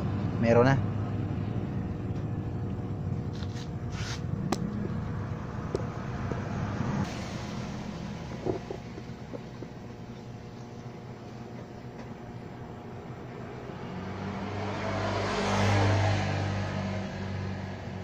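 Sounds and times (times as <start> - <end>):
low engine-like rumble: 0.0 - 15.5.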